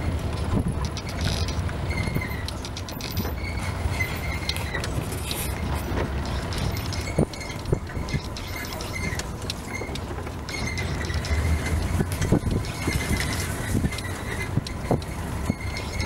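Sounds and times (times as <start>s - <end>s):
jeep engine and road rumble: 0.0s - 16.0s.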